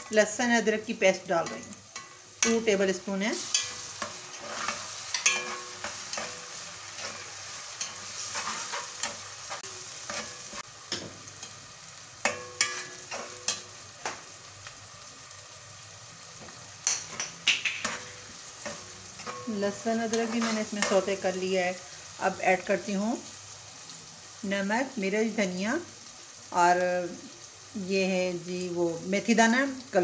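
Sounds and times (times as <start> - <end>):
onions sizzling in hot oil: 0.0 - 30.0.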